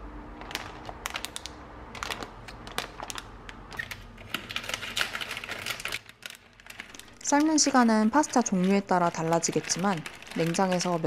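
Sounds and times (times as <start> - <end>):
dry pasta clicking and clattering: 0.4 - 11.0.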